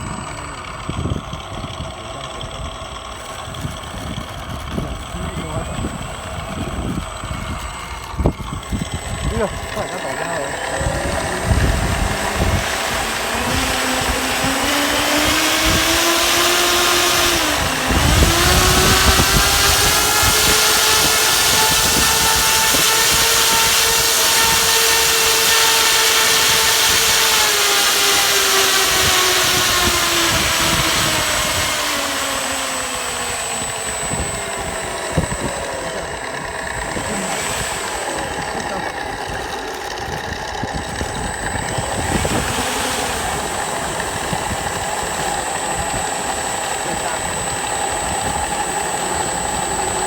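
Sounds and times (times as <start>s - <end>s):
model aircraft engine running: 0.0s - 50.0s.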